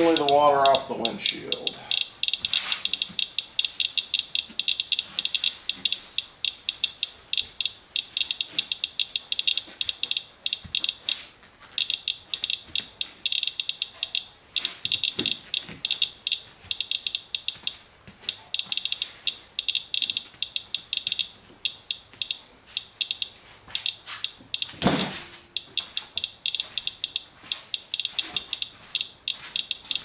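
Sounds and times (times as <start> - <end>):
geiger counter chirping: 0.0 - 11.2, 11.8 - 24.8, 25.5 - 30.0.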